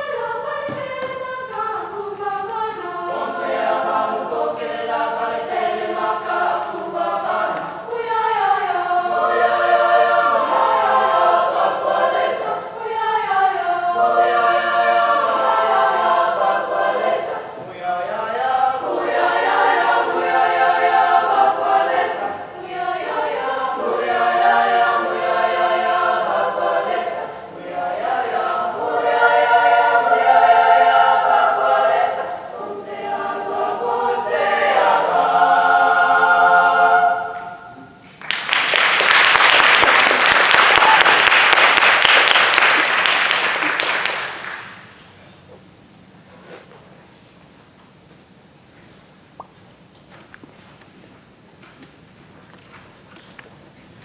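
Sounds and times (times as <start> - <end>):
youth choir singing in harmony: 0.0 - 45.2.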